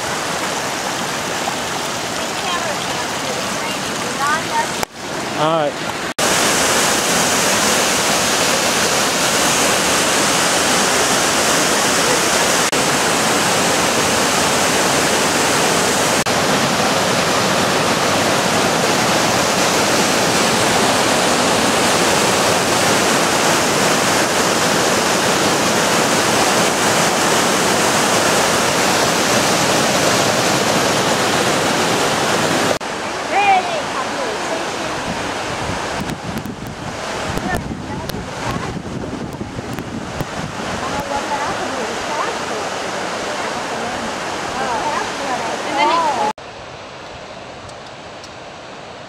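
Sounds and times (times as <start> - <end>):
river rushing over boulders: 0.0 - 49.0.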